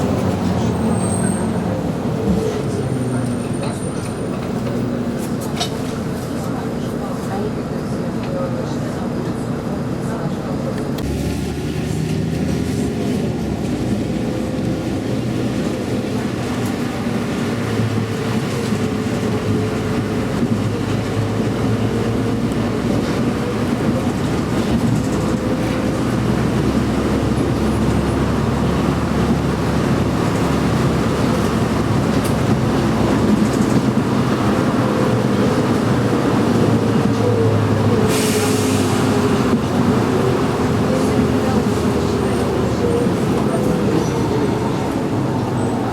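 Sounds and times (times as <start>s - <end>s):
vehicle running rumble: 0.0s - 45.9s.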